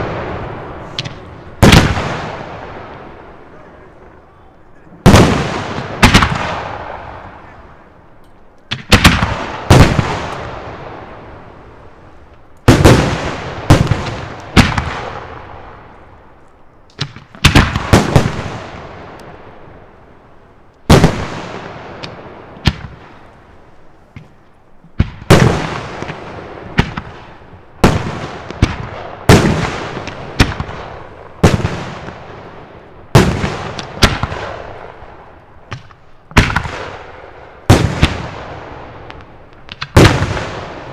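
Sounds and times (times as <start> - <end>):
firework bangs with echoing rumble: 0.0 - 4.4, 5.0 - 7.9, 8.6 - 20.2, 20.8 - 40.9.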